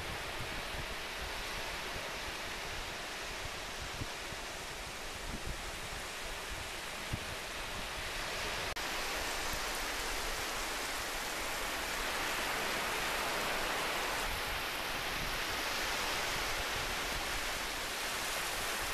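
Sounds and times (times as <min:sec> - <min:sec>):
water washing over sand: 0:00.0 - 0:18.9.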